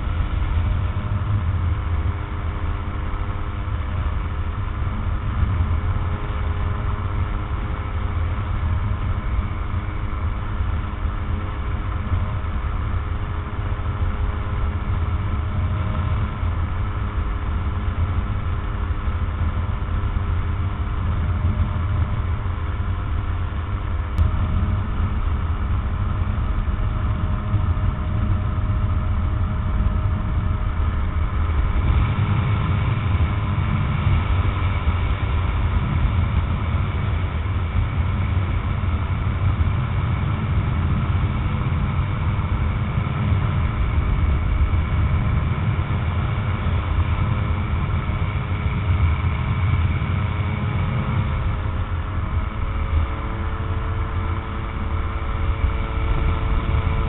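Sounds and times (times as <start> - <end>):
aircraft engine and propeller droning: 0.0 - 57.0
wind noise: 0.0 - 57.0.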